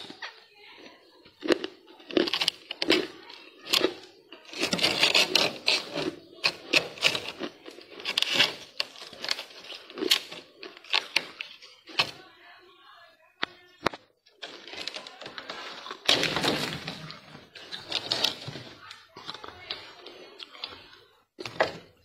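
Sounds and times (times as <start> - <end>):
freezer frost scraping: 0.0 - 12.3, 14.3 - 22.0.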